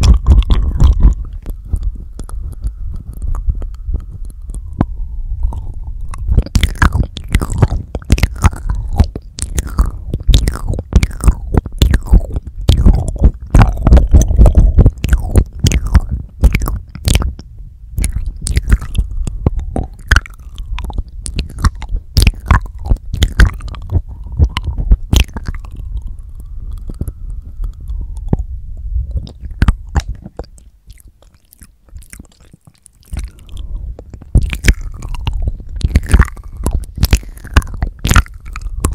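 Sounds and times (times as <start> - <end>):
lip smacks and tongue clicks: 0.0 - 28.5, 29.1 - 38.9
low rumble: 0.0 - 38.9.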